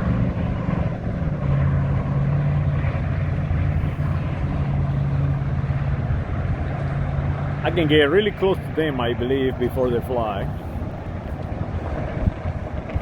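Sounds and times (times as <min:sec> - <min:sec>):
motor engine running: 0:00.0 - 0:13.0
rushing background noise: 0:00.0 - 0:13.0.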